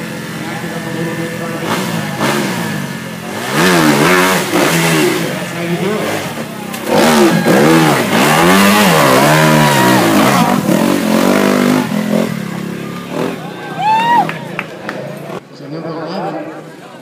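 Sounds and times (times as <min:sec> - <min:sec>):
dirt bike engine revving: 0:00.0 - 0:14.2.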